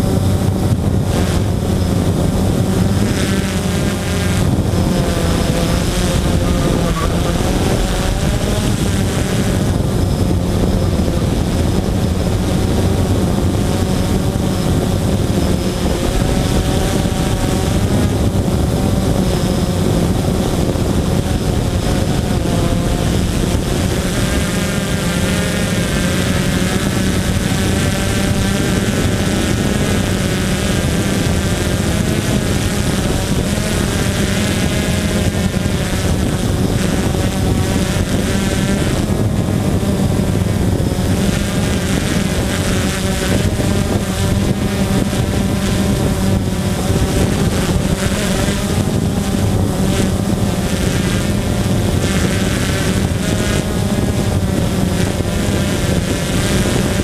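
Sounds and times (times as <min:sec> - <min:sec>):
drone motors and propellers: 0:00.0 - 0:57.0
high-pitched whine: 0:00.0 - 0:57.0.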